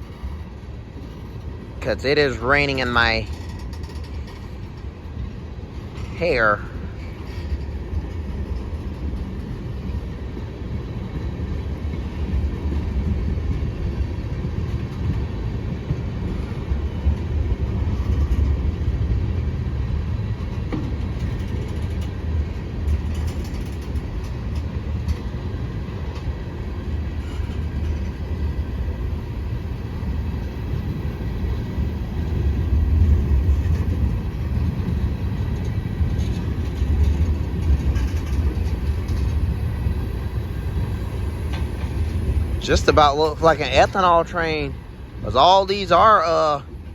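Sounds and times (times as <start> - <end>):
freight train rumbling past: 0.0 - 46.9
train wheel clatter: 0.0 - 46.9.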